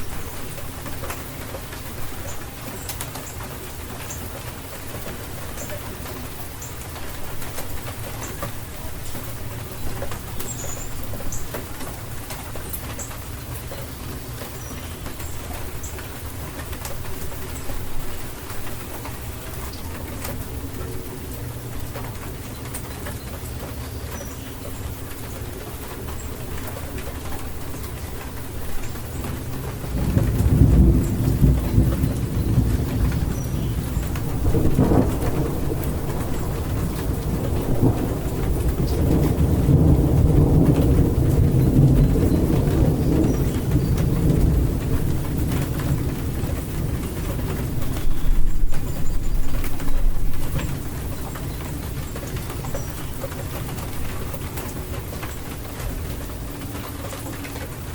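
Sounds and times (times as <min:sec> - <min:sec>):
rain pattering: 0:00.0 - 0:57.9
thunder rumbling: 0:00.0 - 0:57.9.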